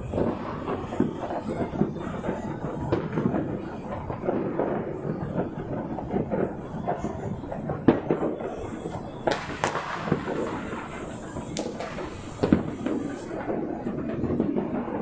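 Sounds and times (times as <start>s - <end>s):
firecrackers crackling: 0.0s - 15.0s
fireworks sharp bangs: 0.0s - 15.0s.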